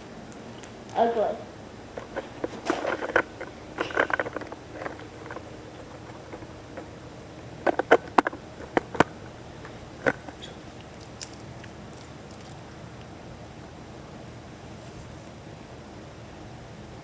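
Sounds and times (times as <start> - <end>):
low room hiss: 0.0 - 17.0.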